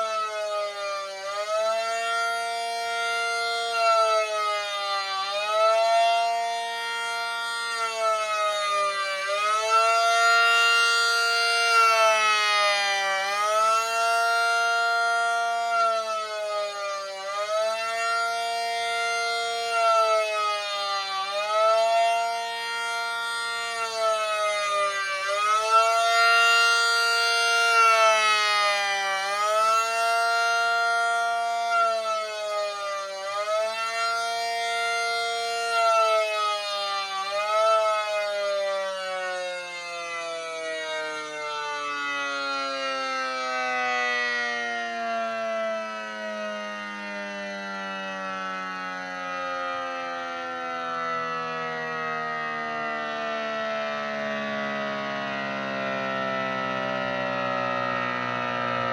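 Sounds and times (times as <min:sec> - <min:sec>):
warning siren: 0:00.0 - 0:58.9.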